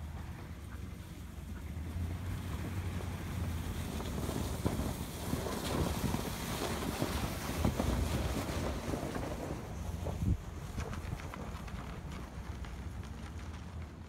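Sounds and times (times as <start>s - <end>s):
pickup engine running low: 0.0s - 14.0s
tires crunching on snow: 0.0s - 14.0s
wind buffeting microphone: 0.0s - 14.0s.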